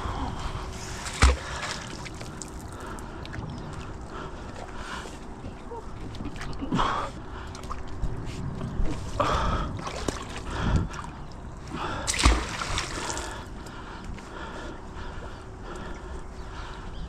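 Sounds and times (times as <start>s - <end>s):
water splashing and sloshing: 0.0s - 16.2s.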